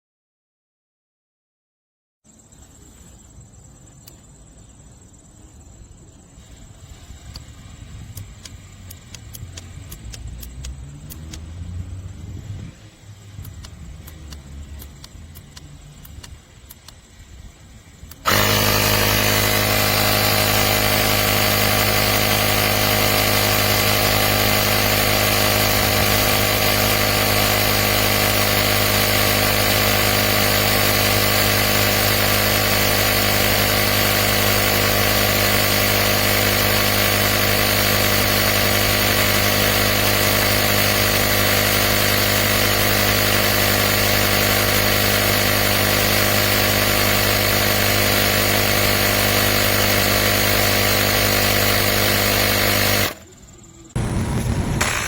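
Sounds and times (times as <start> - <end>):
tire inflator compressor running: 6.4 - 53.3, 54.0 - 55.0.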